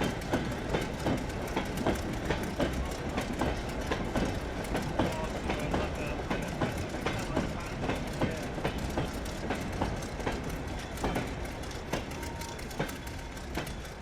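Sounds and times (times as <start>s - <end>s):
train rumble: 0.0s - 14.0s
train wheels clicking over rail joints: 0.0s - 14.0s.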